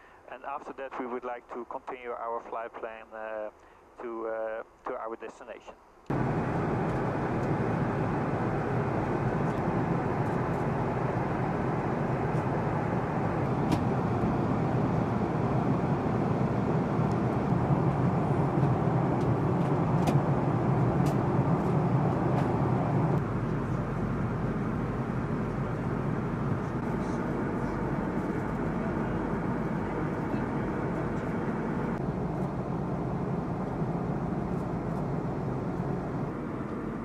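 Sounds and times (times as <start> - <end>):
jet aircraft cabin rumble: 6.1 - 37.0.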